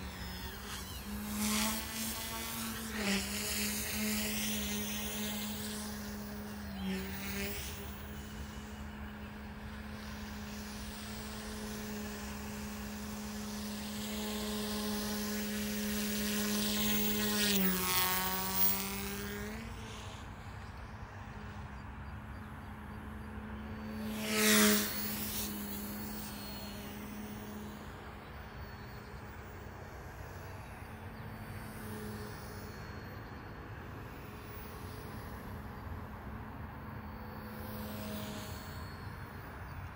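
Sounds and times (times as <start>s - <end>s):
rc helicopter rotors humming: 0.0s - 39.9s.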